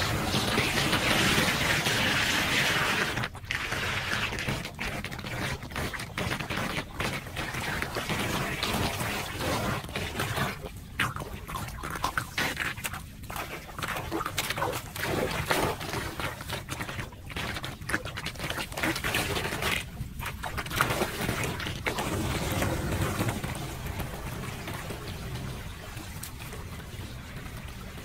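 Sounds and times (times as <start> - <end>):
raking debris from drain: 0.0 - 26.6
floodwater splashing and sloshing: 0.0 - 28.0.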